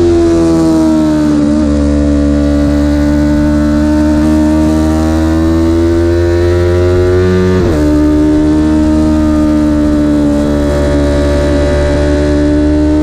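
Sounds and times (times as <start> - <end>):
vehicle engine pulling hard: 0.0 - 13.0.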